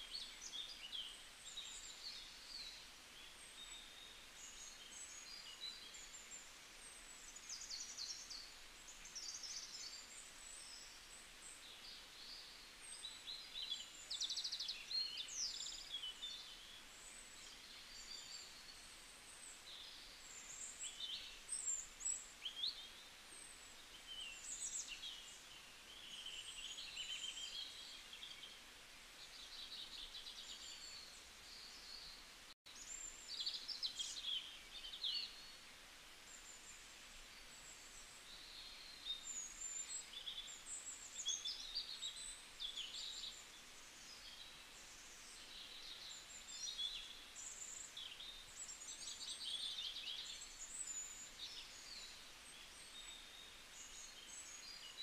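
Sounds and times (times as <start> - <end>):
low background hiss: 0.0 - 55.0
small birds chirping: 0.0 - 55.0.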